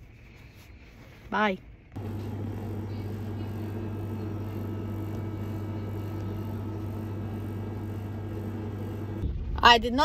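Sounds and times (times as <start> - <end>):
vending machine electrical hum: 1.7 - 10.0.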